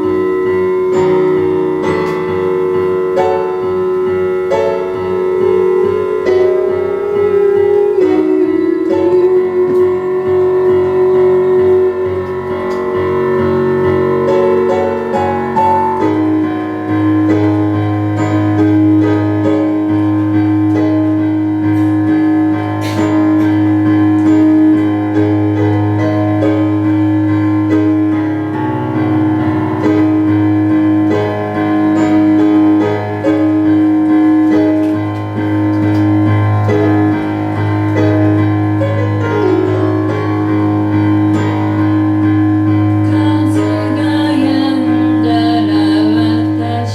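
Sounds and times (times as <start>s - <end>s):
instrumental keyboard chords: 0.0s - 46.9s.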